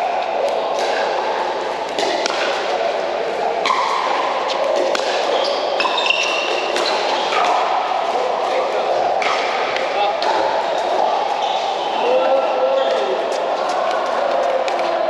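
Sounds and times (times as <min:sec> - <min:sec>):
indoor hall background noise: 0:00.0 - 0:15.0.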